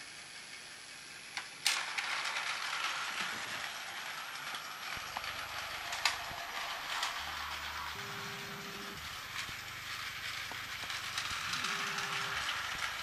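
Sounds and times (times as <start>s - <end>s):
toy train gears rattling: 0.0s - 13.0s.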